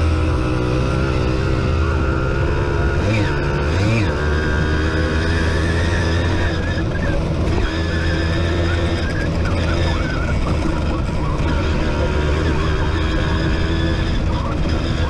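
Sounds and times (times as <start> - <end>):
moped engine at high revs: 0.0 - 15.0.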